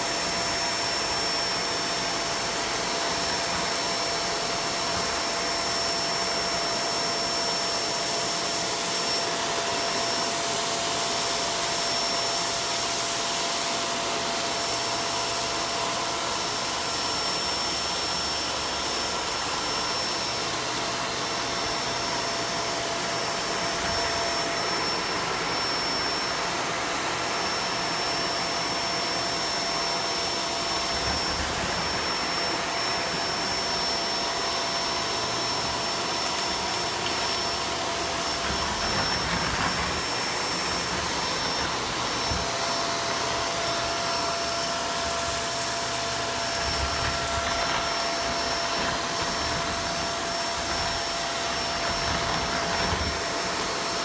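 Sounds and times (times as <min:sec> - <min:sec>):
stick vacuum cleaner running: 0:00.0 - 0:54.0.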